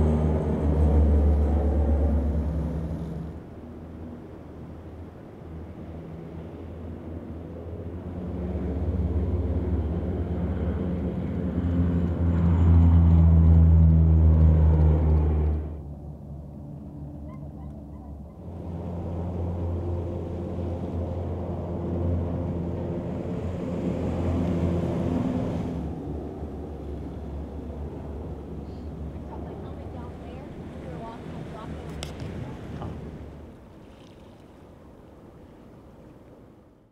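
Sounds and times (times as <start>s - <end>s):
propeller plane flying low past: 0.0s - 36.6s.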